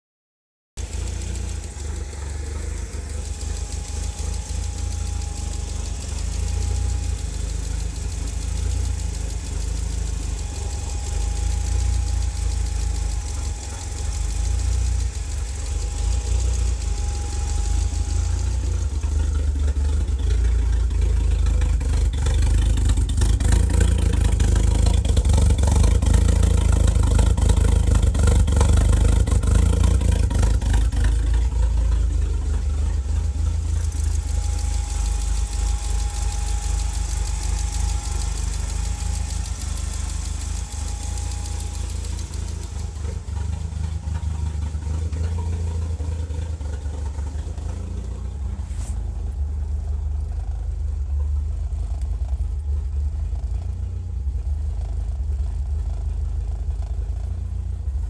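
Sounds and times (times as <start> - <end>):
car engine idling: 0.8 - 58.0.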